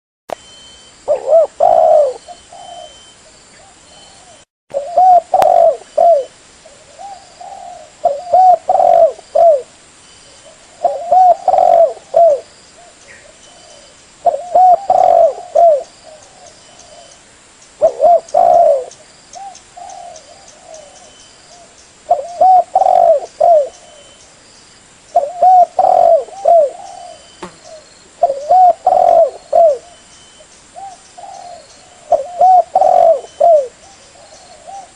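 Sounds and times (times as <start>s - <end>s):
dove cooing: 1.1s - 9.7s, 10.4s - 17.2s, 17.8s - 24.2s, 25.2s - 30.0s, 30.8s - 34.9s.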